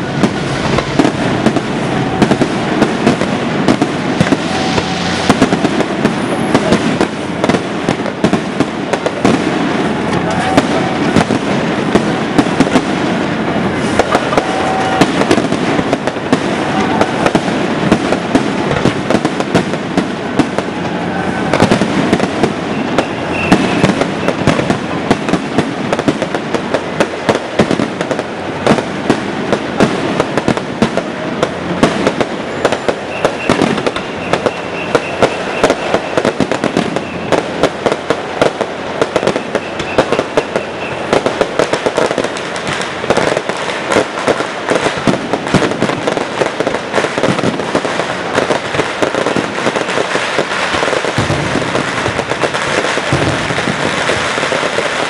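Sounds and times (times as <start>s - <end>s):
firework shells bursting: 0.0s - 55.0s
fireworks crackle: 0.0s - 55.0s
sharp bangs: 0.0s - 55.0s.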